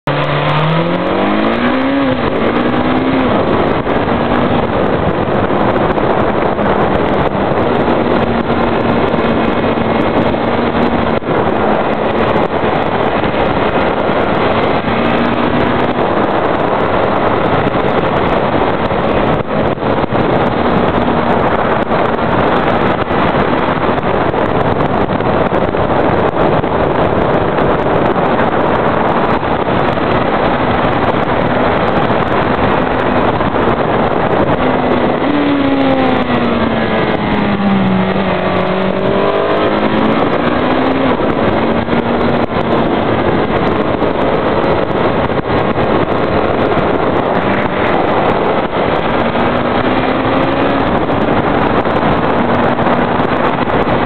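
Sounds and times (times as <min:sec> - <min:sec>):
motorcycle engine accelerating: 0:00.0 - 0:54.0
wind rushing on microphone: 0:00.0 - 0:54.0.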